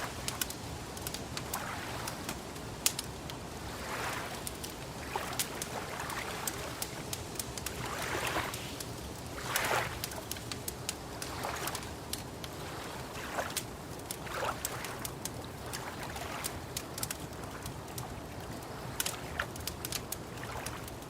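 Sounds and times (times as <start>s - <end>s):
water lapping: 0.0s - 21.0s
wood fire crackling and popping: 0.0s - 21.0s.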